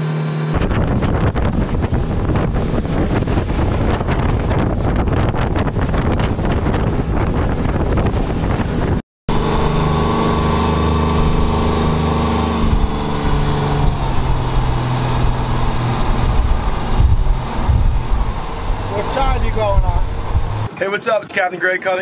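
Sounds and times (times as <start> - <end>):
boat engine humming: 0.0 - 22.0
hull noise: 0.0 - 22.0
wind buffeting microphone: 0.5 - 21.2.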